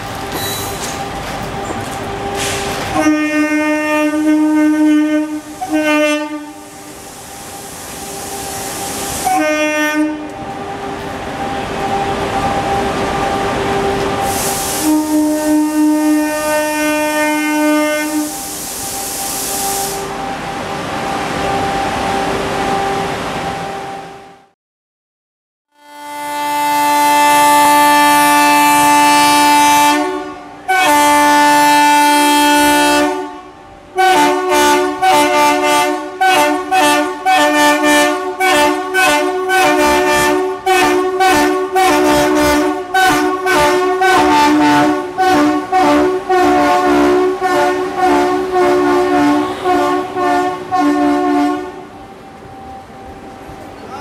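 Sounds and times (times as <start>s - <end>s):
electric locomotive horn tooting: 1.6s - 7.0s, 8.0s - 24.2s, 25.7s - 54.0s.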